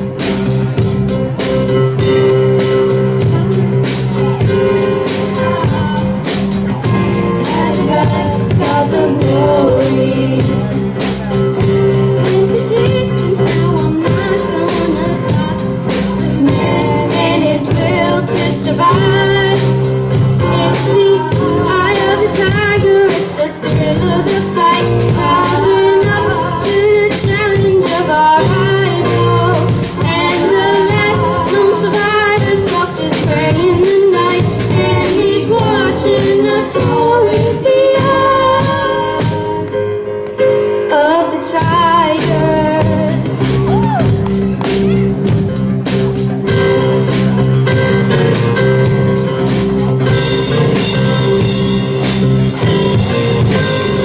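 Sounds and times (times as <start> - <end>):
drums and cymbals: 0.0 - 39.6, 41.5 - 54.0
bass: 0.0 - 54.0.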